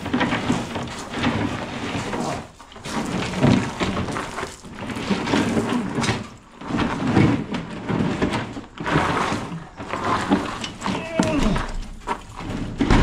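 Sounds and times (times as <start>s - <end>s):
wooden cabinet scraping on gravel: 0.0s - 13.0s.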